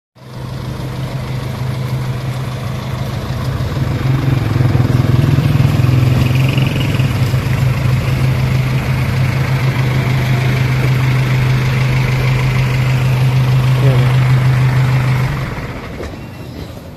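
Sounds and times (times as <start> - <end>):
truck engine idling: 0.2 - 16.9.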